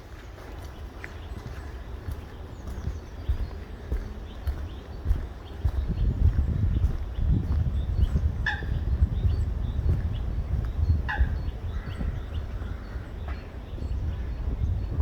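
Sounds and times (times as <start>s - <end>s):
low rumbling on microphone: 0.0s - 15.0s.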